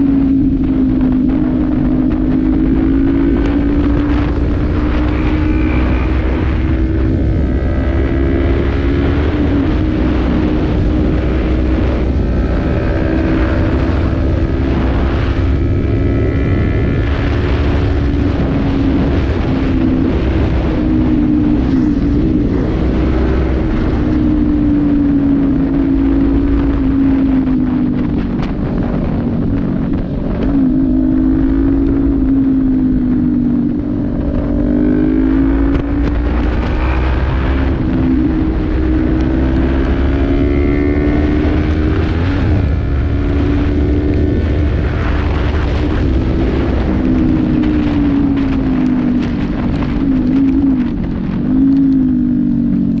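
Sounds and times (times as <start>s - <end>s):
motorcycle engine at speed: 0.0s - 53.0s
wind noise: 0.0s - 53.0s.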